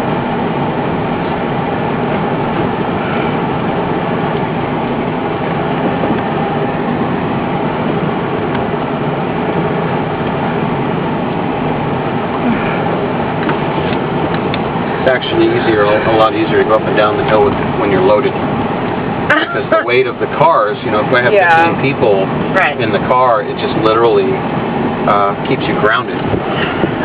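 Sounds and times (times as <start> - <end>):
van engine and road noise: 0.0 - 27.0.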